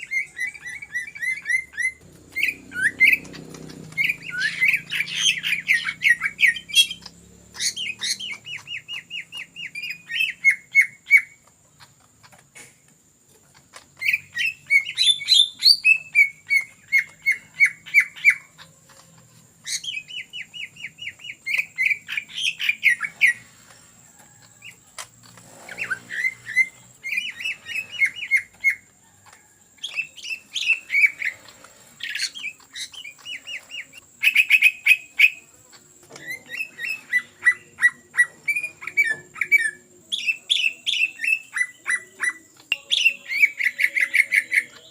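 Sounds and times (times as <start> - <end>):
bird singing rattling phrases: 0.0 - 44.9.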